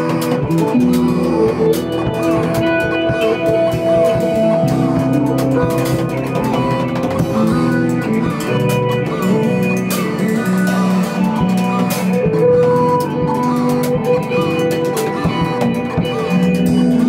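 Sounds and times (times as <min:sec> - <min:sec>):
bass line: 0:00.0 - 0:17.0
drums and cymbals: 0:00.0 - 0:17.0
guitar and synth tones: 0:00.0 - 0:17.0.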